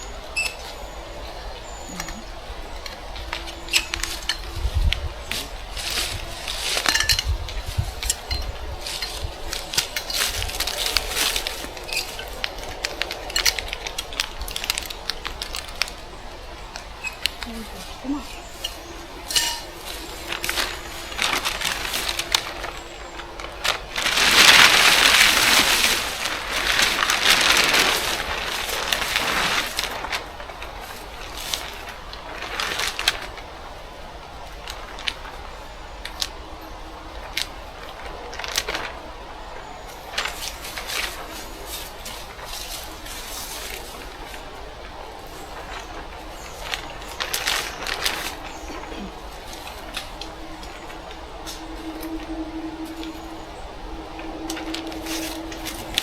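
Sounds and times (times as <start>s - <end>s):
rustling handling noises: 0.0s - 56.0s.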